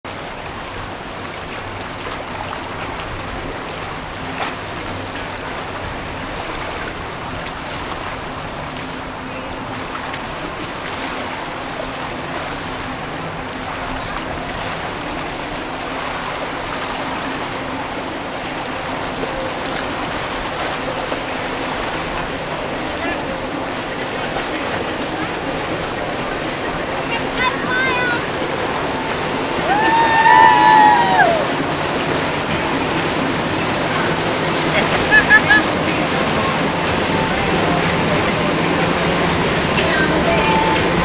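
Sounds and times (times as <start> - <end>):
low boat engine hum: 0.0 - 41.0
water rushing and splashing: 0.0 - 41.0.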